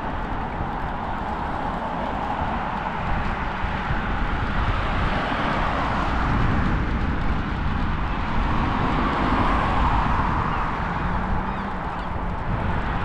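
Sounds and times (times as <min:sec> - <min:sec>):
road traffic: 0:00.0 - 0:13.0
wind rumble on microphone: 0:00.0 - 0:13.0.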